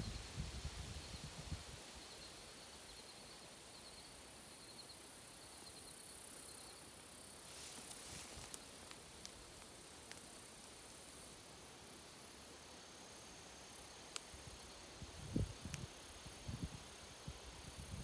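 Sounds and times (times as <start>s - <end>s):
insect high chirp: 0.0s - 18.0s
insect hiss: 0.0s - 18.0s.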